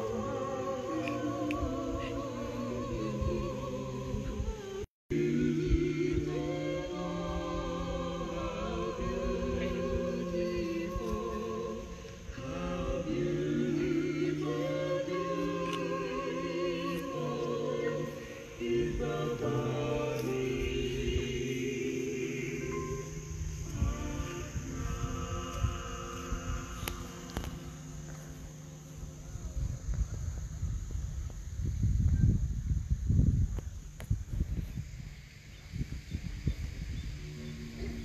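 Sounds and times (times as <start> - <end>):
choir singing: 0.0 - 30.0, 35.1 - 38.0.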